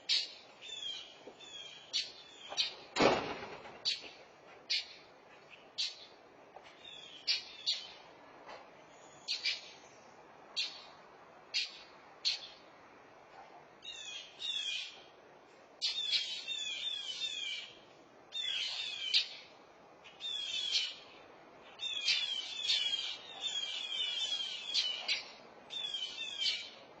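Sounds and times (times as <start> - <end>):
mockingbirds alarm calls: 0.0 - 8.0, 9.0 - 9.8, 10.4 - 12.7, 13.8 - 15.1, 15.8 - 26.9.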